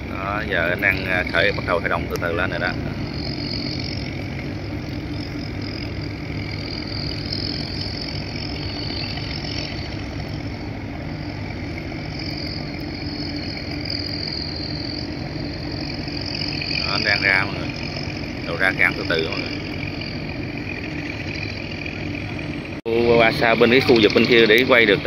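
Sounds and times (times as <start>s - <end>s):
ferry engines rumbling: 0.0s - 25.0s.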